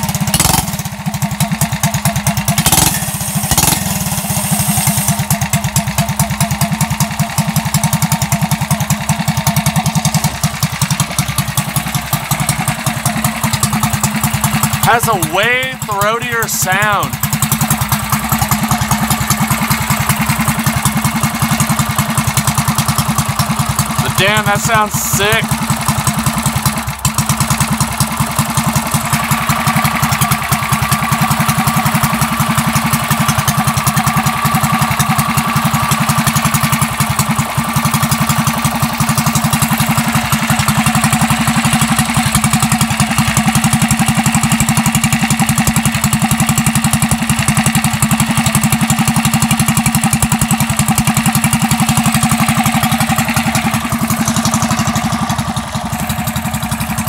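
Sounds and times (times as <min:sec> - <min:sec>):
mini bike engine idling: 0:00.0 - 0:57.0.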